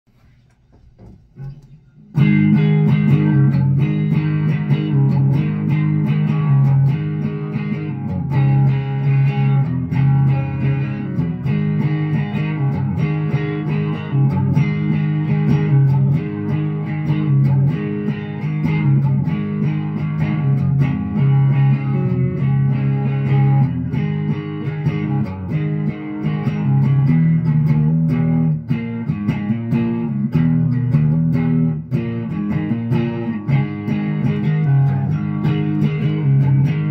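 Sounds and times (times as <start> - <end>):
electric guitar chords: 1.4 - 36.9.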